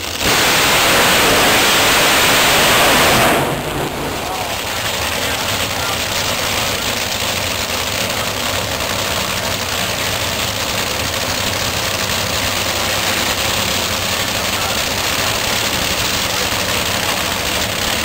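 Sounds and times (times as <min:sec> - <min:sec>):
loud engine droning: 0:00.0 - 0:18.0.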